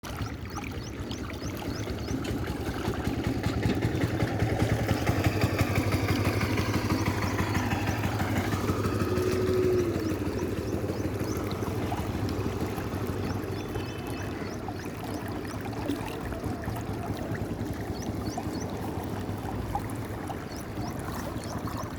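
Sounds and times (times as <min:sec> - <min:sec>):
water rushing: 0:00.0 - 0:21.9.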